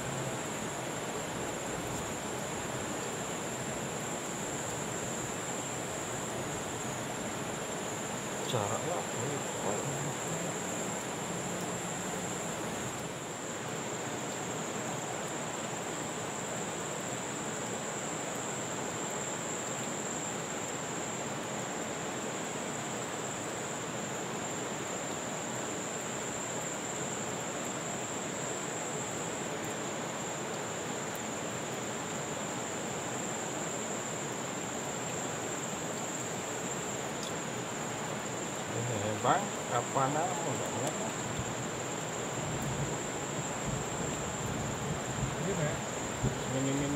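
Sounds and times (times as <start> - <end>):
river flowing: 0.0 - 20.9, 22.5 - 46.9
insects droning: 0.0 - 46.9.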